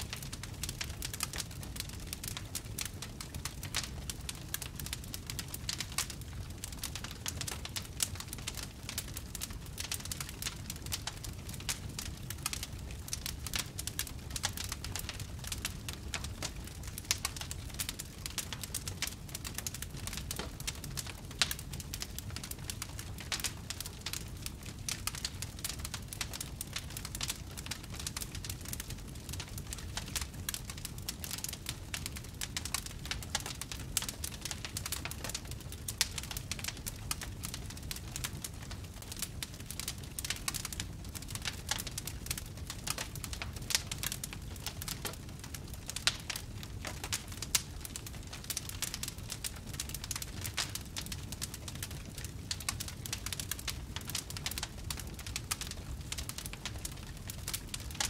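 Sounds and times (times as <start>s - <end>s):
fireplace wood fire crackling: 0.0s - 58.0s
low steady fire rumble: 0.0s - 58.0s.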